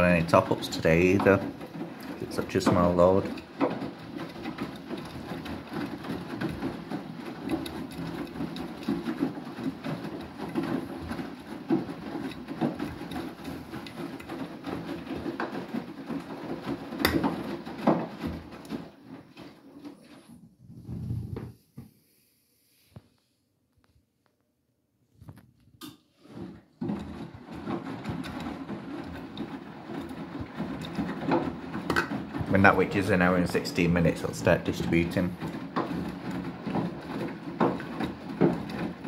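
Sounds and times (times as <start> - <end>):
knocks in washing machine: 0.0 - 19.6, 26.8 - 39.0
washing machine drum turning: 0.0 - 20.2, 25.9 - 39.0.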